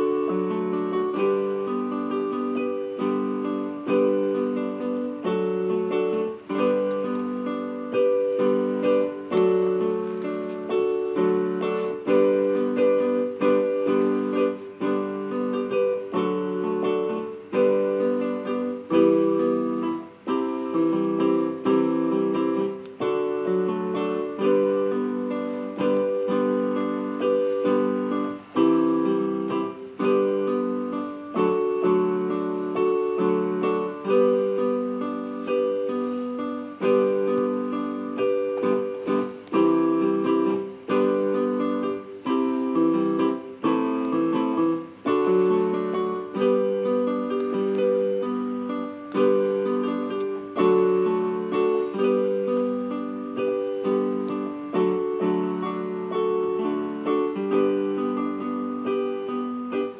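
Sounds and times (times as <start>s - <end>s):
piano chords: 0.0s - 59.9s.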